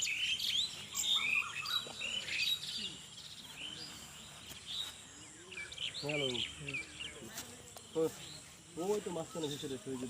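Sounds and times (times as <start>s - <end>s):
birds chirping and whistling: 0.0s - 10.0s.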